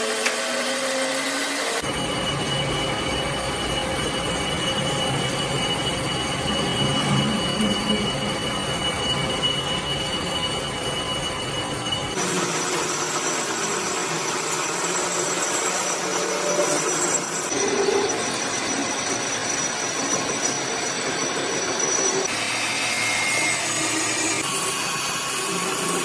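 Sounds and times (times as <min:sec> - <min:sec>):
power tool grinding steel: 0:00.0 - 0:26.0.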